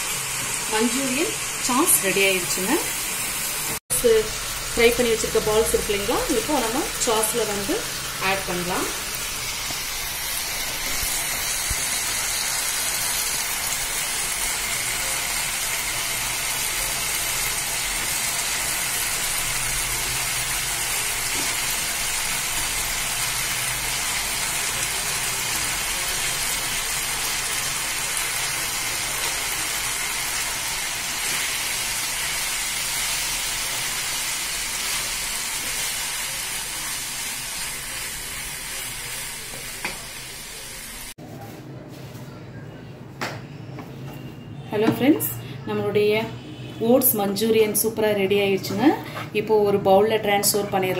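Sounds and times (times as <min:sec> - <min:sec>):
sauce sizzling in a frying pan: 0:00.0 - 0:41.2.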